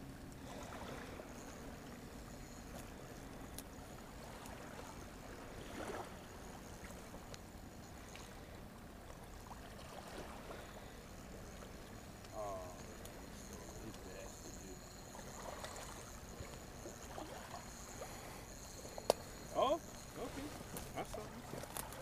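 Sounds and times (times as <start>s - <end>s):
low steady hum: 0.0s - 22.0s
small waves lapping: 0.3s - 22.0s.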